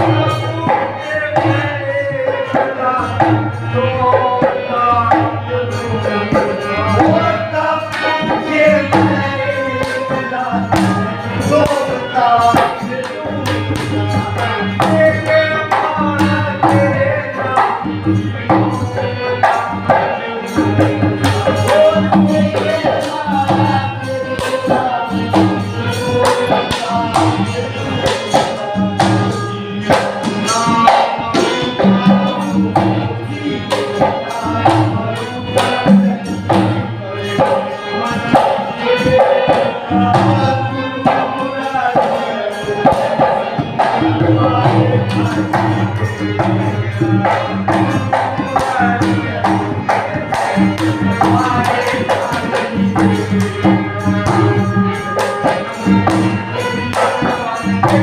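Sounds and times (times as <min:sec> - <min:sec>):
devotional singing: 0:00.0 - 0:58.0
hand drums: 0:00.0 - 0:58.0
jingling percussion: 0:00.0 - 0:58.0.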